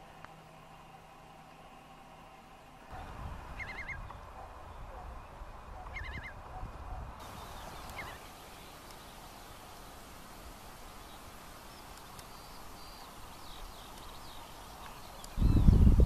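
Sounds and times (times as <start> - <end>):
steady outdoor hiss: 0.0 - 16.0
wild birds calling: 0.0 - 16.0.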